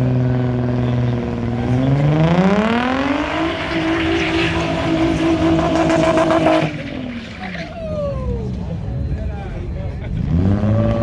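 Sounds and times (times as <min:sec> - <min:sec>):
car engine revving: 0:00.0 - 0:09.2, 0:10.0 - 0:11.0.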